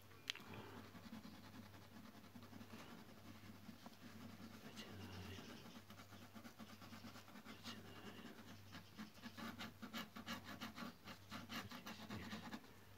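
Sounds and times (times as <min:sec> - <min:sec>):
pen scratching on paper: 0:00.6 - 0:12.7.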